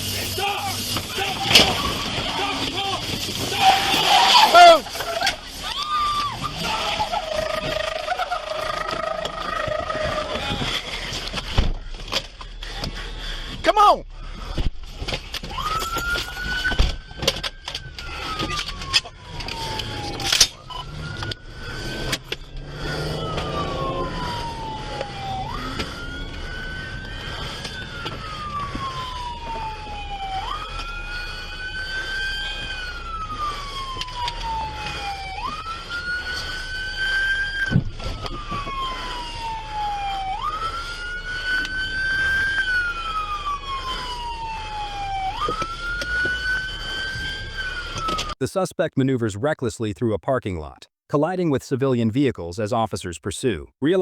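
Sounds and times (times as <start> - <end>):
police siren wailing: 0.0 - 48.4.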